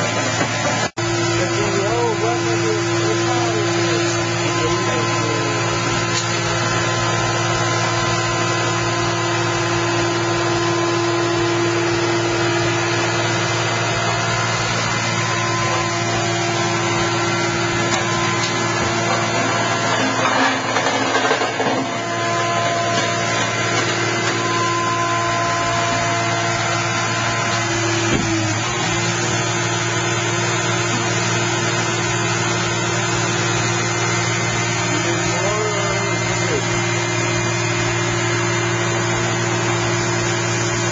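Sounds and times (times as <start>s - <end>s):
power unit humming: 0.0s - 40.9s.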